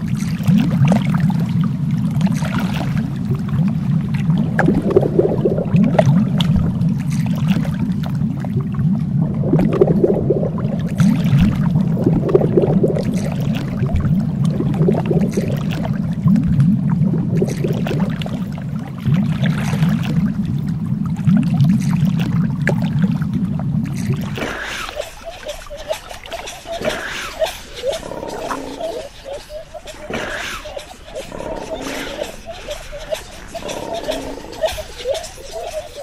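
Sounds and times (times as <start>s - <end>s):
underwater rumble: 0.0s - 36.0s
water bubbling and gurgling: 0.0s - 36.0s.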